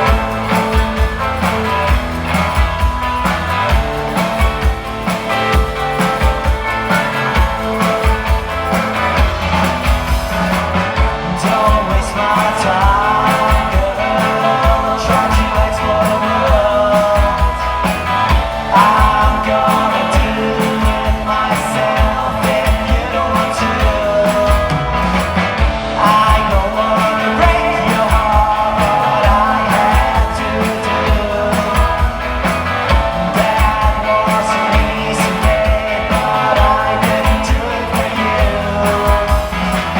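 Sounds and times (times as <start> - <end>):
person singing: 0.0 - 39.9
pop-rock band playing: 0.0 - 39.9.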